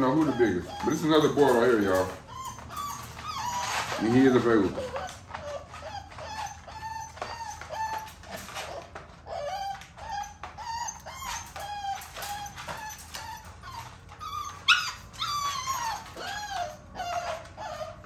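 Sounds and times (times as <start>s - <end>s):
puppy whimpering: 0.0s - 18.0s.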